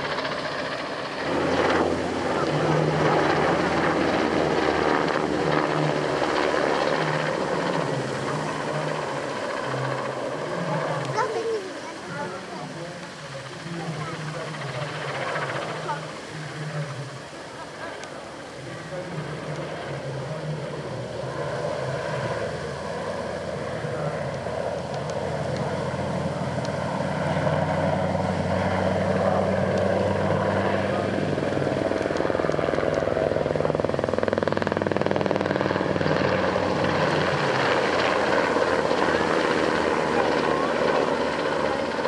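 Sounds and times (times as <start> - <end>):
helicopter flying overhead: 0.0 - 42.0.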